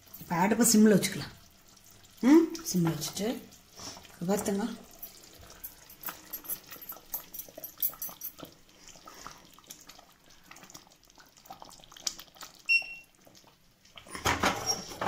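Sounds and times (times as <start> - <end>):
gravy simmering and bubbling: 0.0 - 15.0.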